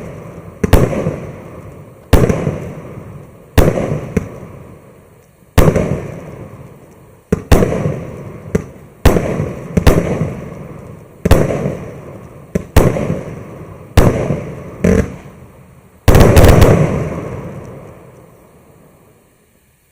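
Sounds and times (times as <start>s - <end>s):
firework bursts with crackle: 0.0s - 19.9s.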